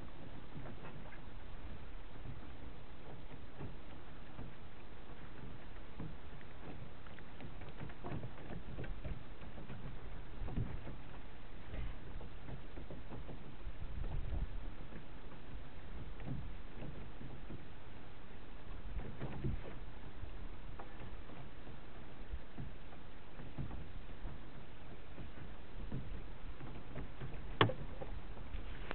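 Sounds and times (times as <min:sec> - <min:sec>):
water lapping against boat hull: 0:00.0 - 0:28.9.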